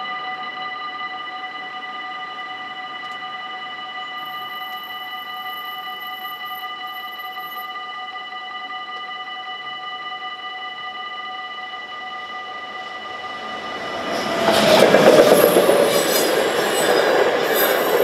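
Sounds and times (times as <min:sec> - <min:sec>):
level crossing warning bell: 0:00.0 - 0:08.2, 0:11.6 - 0:18.0.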